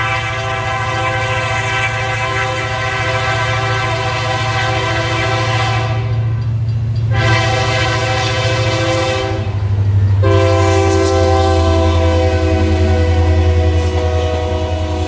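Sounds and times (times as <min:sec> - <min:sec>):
locomotive air horn chord: 0:00.0 - 0:06.3, 0:07.1 - 0:15.0
locomotive engine rumble: 0:00.0 - 0:15.0.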